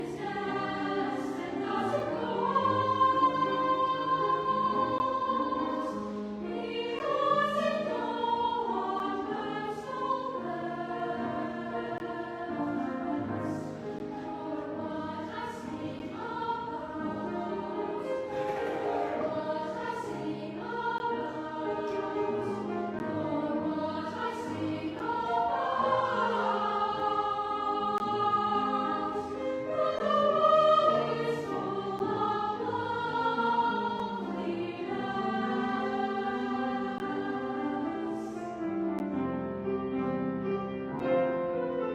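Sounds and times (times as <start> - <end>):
children's choir singing: 0.0 - 39.4.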